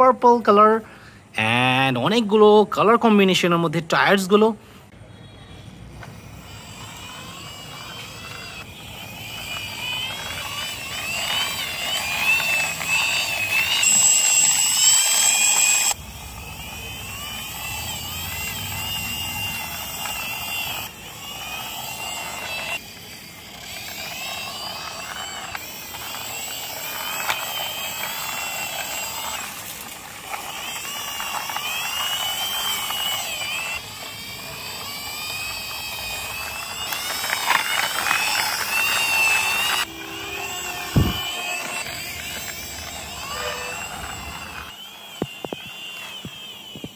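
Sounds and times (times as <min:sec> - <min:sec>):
toy truck wheels whirring: 0:00.0 - 0:46.9.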